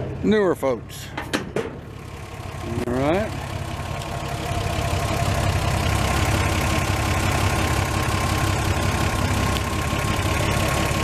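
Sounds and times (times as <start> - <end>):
car engine idling: 0.8 - 11.0.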